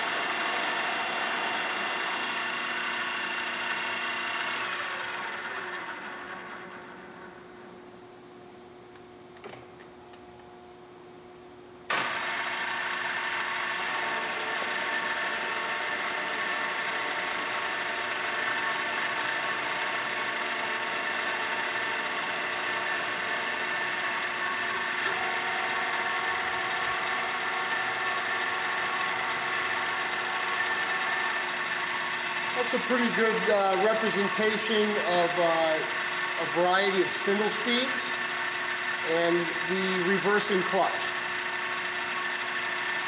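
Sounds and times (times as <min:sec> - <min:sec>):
drill press geared head whine: 0:00.0 - 0:07.8, 0:11.9 - 0:43.0.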